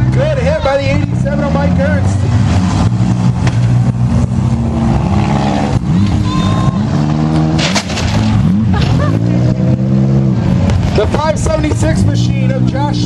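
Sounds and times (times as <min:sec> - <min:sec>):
car engines revving: 0:00.0 - 0:13.0
cars crashing: 0:01.0 - 0:12.0.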